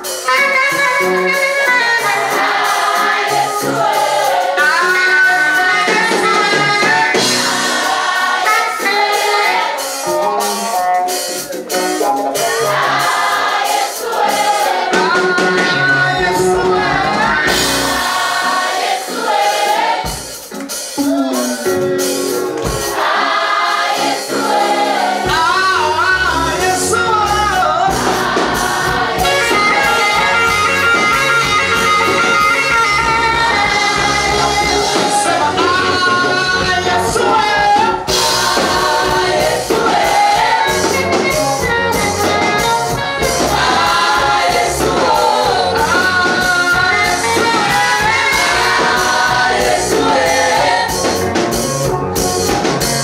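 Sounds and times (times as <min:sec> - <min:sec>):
choir singing gospel: 0:00.0 - 0:53.0
instrumental accompaniment: 0:00.0 - 0:53.0.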